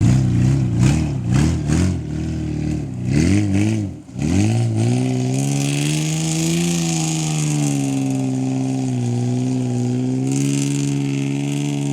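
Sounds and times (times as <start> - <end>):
pickup truck engine revving: 0.0 - 11.9.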